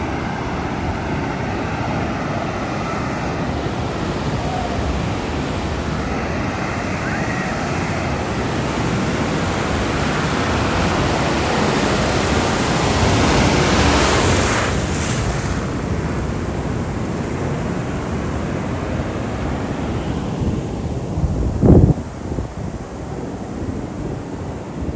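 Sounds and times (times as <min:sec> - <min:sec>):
ocean waves breaking: 0:00.0 - 0:21.3.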